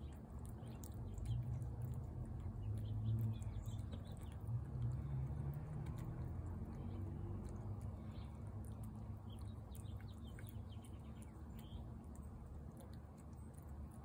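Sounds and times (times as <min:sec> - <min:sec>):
cat chewing and lapping food: 0:00.0 - 0:14.0.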